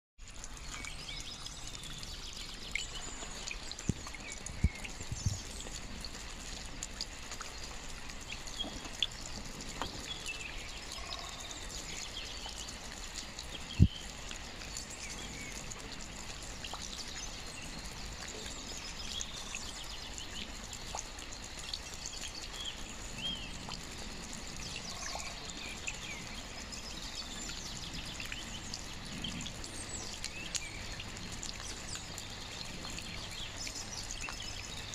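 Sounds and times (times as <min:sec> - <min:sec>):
steady rain: 0:00.2 - 0:34.9
water trickling and dripping: 0:00.2 - 0:34.9
small birds chirping: 0:00.4 - 0:06.4, 0:07.2 - 0:23.8, 0:24.5 - 0:34.9.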